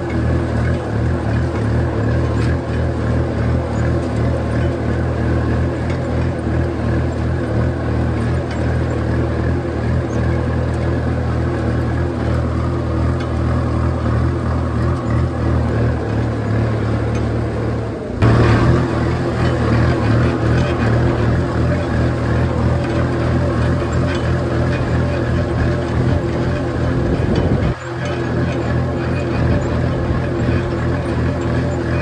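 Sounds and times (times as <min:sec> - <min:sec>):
tractor diesel engine under load: 0:00.0 - 0:32.0.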